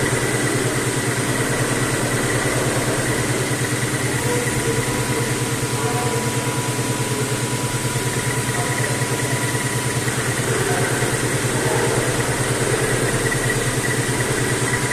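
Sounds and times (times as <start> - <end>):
milling machine humming and whining: 0.0 - 14.9.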